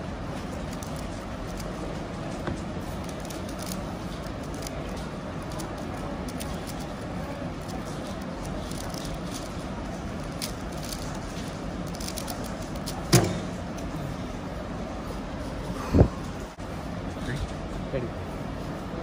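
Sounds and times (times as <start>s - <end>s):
murmur of voices in a hall: 0.0s - 19.0s.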